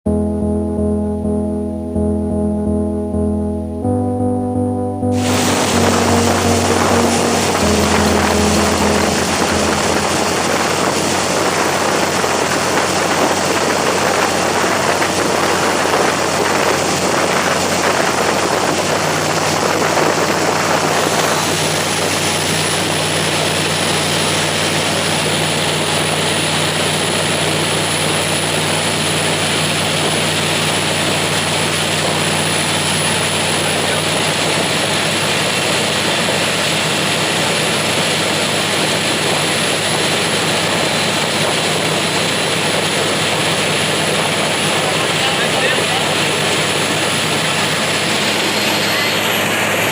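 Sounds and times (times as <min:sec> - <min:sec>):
boat engine drone: 0:00.1 - 0:49.9
rushing water: 0:05.2 - 0:49.9.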